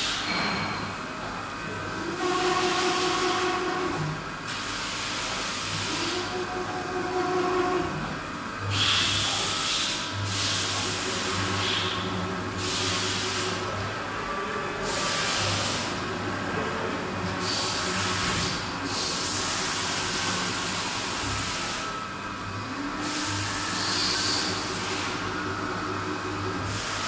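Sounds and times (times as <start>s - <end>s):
steady hum: 1.1s - 27.0s.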